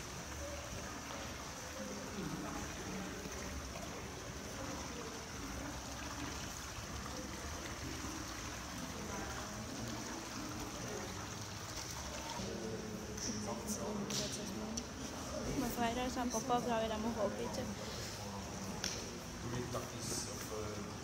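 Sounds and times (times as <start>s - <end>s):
water trickling and bubbling: 0.0s - 21.0s.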